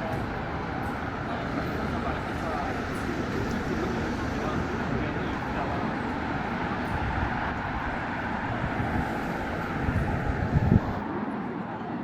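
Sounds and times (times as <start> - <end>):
low city rumble: 0.0 - 12.0.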